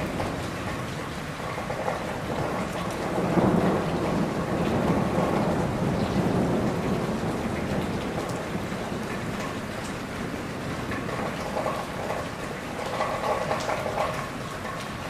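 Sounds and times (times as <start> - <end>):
thunder rumbling: 0.0 - 14.2
rain falling on leaves: 0.0 - 15.0.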